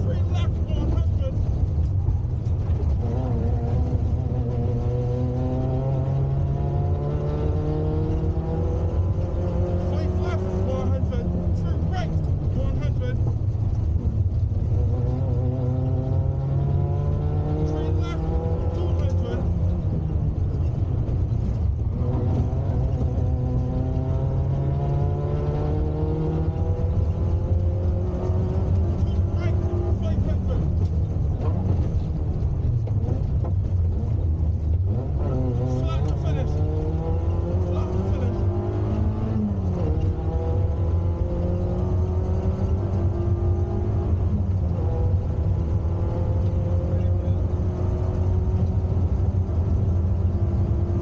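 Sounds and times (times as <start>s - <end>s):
car engine revving under load: 0.0s - 51.0s
road rumble: 0.0s - 51.0s.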